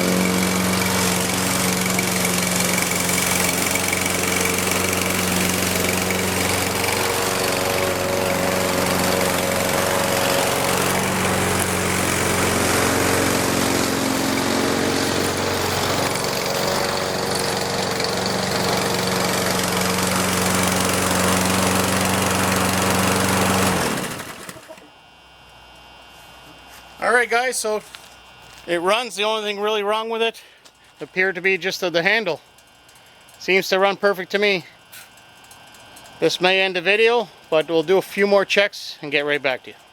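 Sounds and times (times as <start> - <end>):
lawn mower engine running: 0.0 - 25.8, 30.7 - 39.9.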